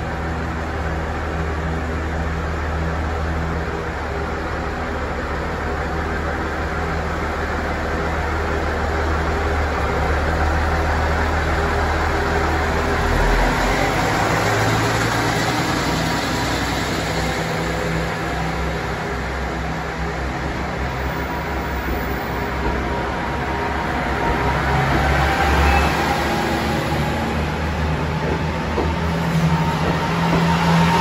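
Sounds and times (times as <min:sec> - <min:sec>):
diesel railcar engine throbbing: 0:00.0 - 0:31.0
rail noise: 0:00.0 - 0:31.0.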